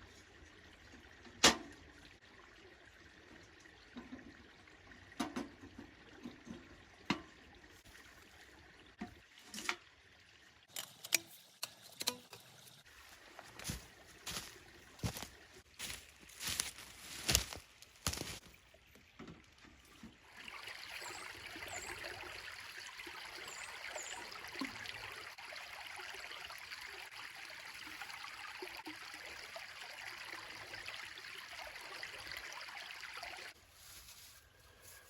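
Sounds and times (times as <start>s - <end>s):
running water stream: 0.0s - 34.3s.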